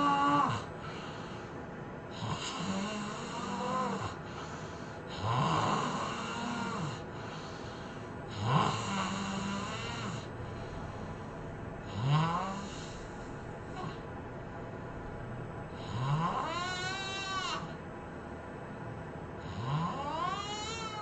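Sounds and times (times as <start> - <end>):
person snoring: 0.0 - 1.4, 2.1 - 14.0, 15.7 - 17.8, 19.4 - 21.0.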